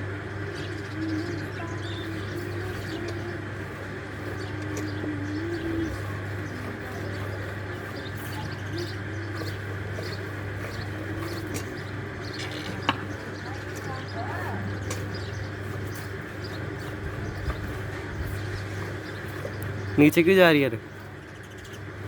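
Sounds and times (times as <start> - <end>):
doves cooing: 0.0 - 22.0.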